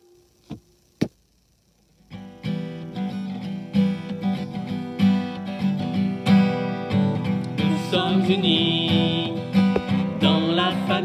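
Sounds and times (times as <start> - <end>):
guitar strumming chords: 2.0 - 11.0.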